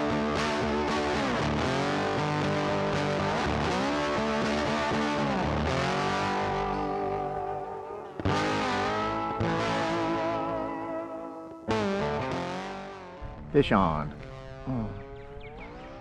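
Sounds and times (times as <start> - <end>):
distorted electric guitar: 0.0 - 16.0.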